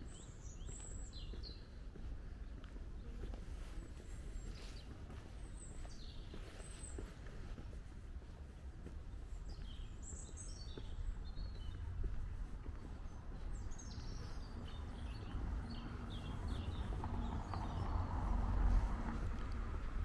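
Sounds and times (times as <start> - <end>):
songbirds singing: 0.0 - 7.4, 8.3 - 19.4.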